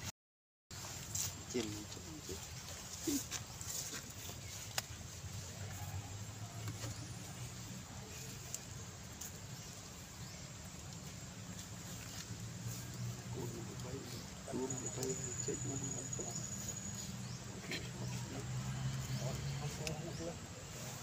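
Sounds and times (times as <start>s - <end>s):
low outdoor hum: 0.8s - 21.0s.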